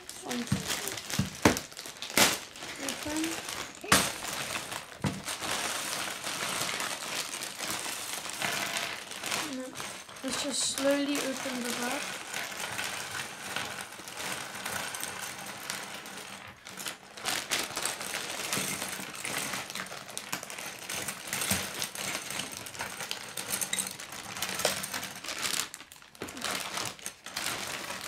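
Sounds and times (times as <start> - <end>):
plastic bag rustling: 0.0 - 28.0
plastic pieces clattering on table: 0.0 - 28.0.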